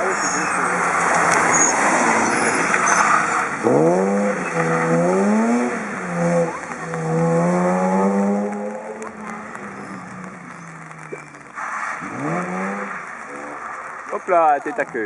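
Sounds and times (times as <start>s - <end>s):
rally car engine accelerating: 0.0s - 15.0s.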